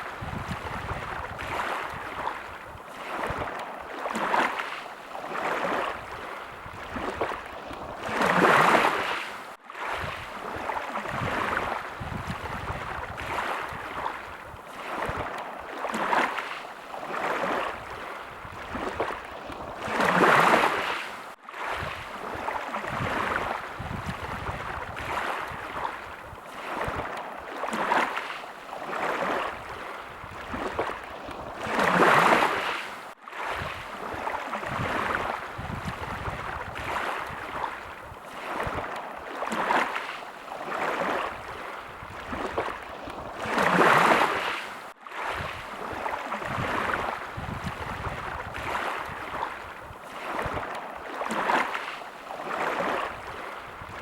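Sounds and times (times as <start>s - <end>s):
sea waves lapping: 0.0s - 54.0s.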